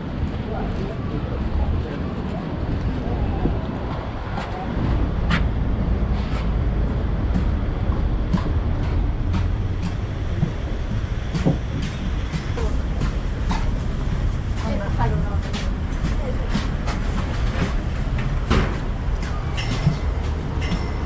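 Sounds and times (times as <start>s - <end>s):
steady low rumble: 0.0s - 21.0s
footsteps on wooden planks: 0.1s - 21.0s.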